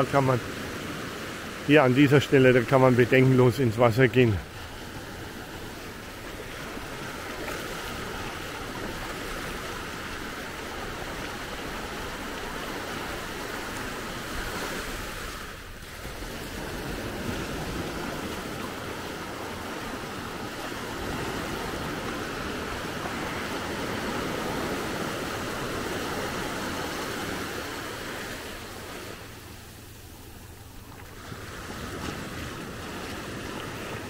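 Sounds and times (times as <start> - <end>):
small waves breaking on shore: 0.0 - 34.0.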